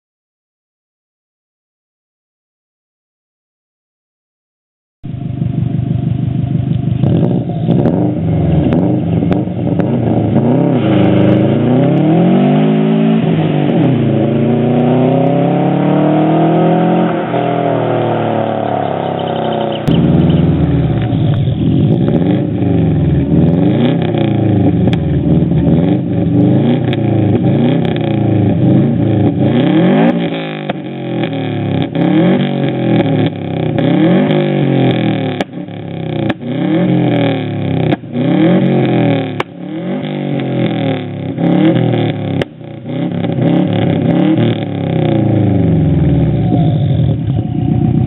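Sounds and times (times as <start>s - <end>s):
car engine revving: 5.0s - 48.0s.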